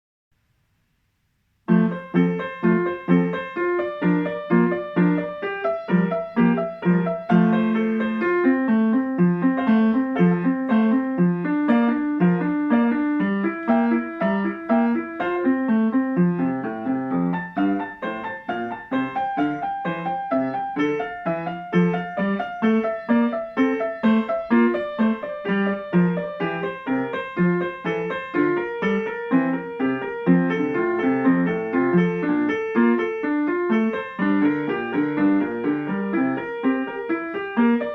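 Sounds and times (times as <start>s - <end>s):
grand piano playing: 1.7s - 37.9s.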